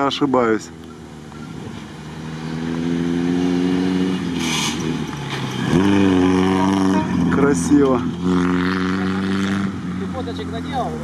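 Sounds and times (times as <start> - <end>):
car engine revving past: 1.2 - 11.0.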